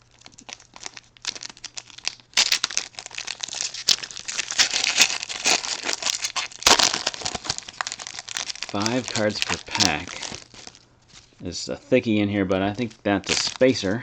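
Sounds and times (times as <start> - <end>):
wrapper crinkling: 0.0 - 11.4, 12.7 - 14.0.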